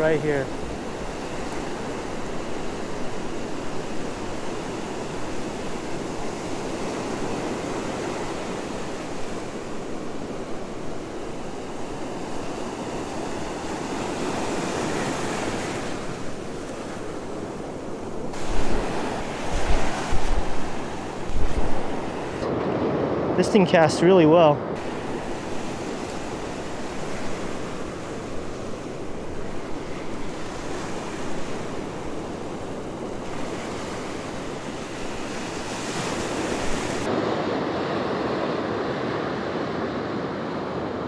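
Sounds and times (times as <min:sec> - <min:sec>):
wind buffeting microphone: 0:00.0 - 0:24.0, 0:24.6 - 0:41.0
ocean surf breaking: 0:00.0 - 0:41.0.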